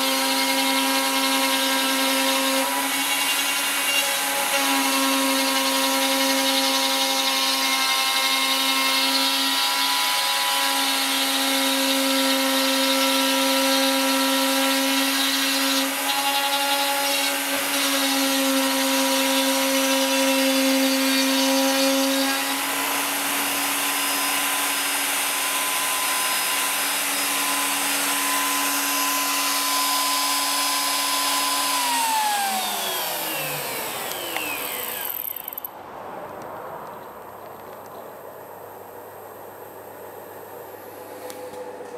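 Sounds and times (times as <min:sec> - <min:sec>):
router spindle whine: 0:00.0 - 0:35.8.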